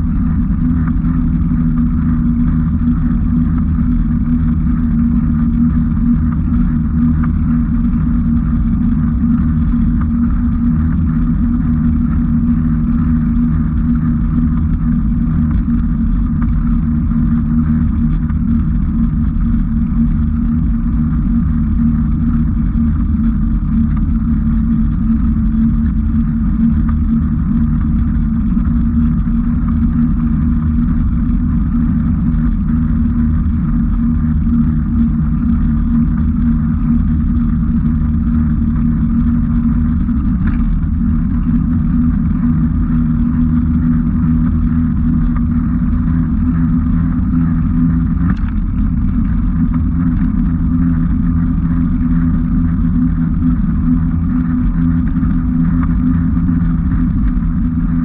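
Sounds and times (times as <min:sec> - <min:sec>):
low rumble of riding on pavement: 0:00.0 - 0:58.0.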